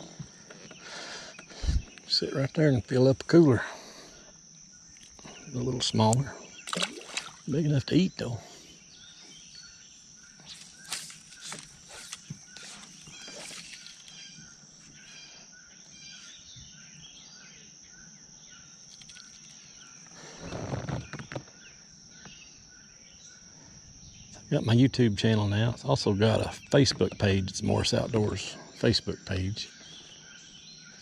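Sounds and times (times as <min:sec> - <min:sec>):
bird calls: 0:00.0 - 0:02.7, 0:03.9 - 0:24.5, 0:25.6 - 0:31.0
insect drone: 0:00.0 - 0:31.0.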